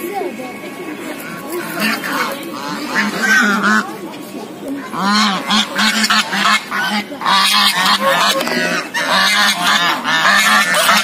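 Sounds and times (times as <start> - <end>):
geese honking: 0.0 - 4.0, 4.7 - 11.0.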